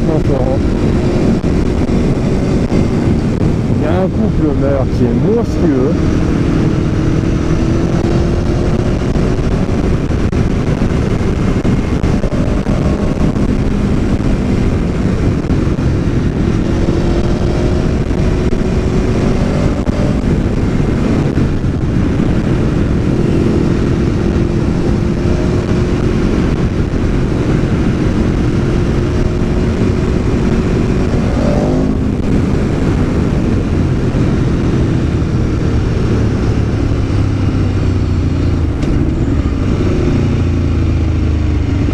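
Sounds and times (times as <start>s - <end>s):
motorcycle engine accelerating: 0.0s - 41.9s
wind rush on microphone: 0.0s - 41.9s.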